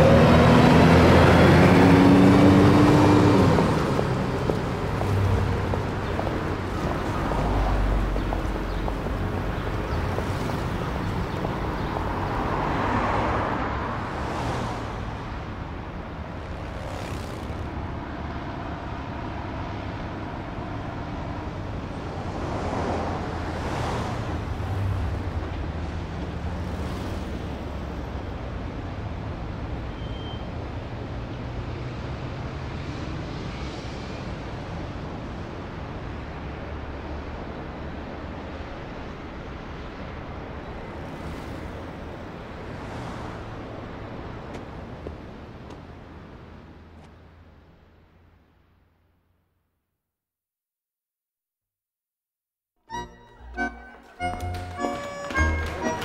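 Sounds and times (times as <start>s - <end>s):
vehicles passing: 0.0s - 49.5s, 52.9s - 56.0s
traffic hum: 0.0s - 49.6s, 52.9s - 56.0s.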